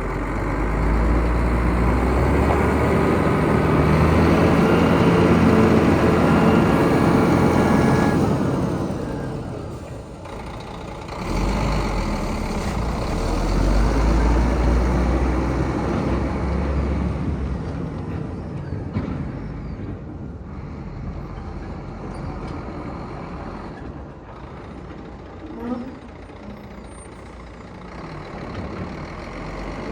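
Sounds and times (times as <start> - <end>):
diesel truck engine rumbling: 0.0 - 29.9.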